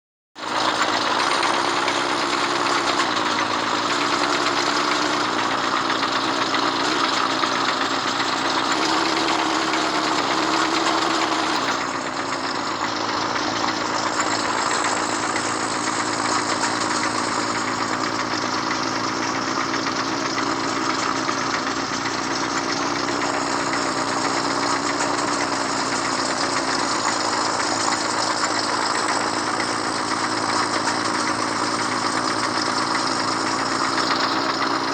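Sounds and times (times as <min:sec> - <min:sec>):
excavator diesel engine running: 0:00.4 - 0:34.9.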